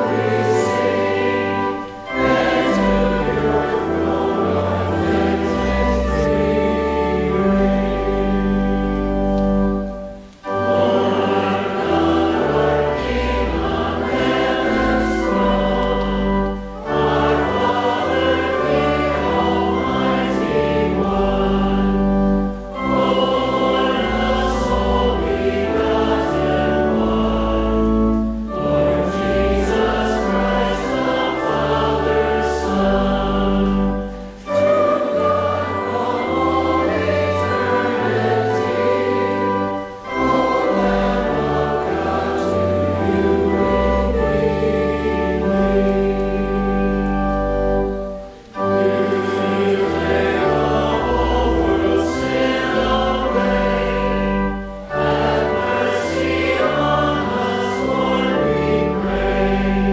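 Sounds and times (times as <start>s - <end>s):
congregation singing a hymn: 0.0s - 59.9s
organ accompaniment: 0.0s - 59.9s.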